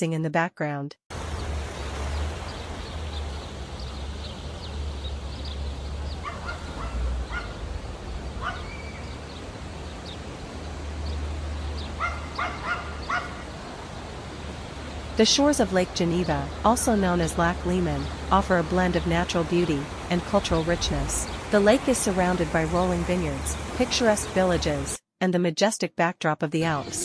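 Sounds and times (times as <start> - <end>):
outdoor background noise: 1.1 - 25.0, 26.6 - 27.0.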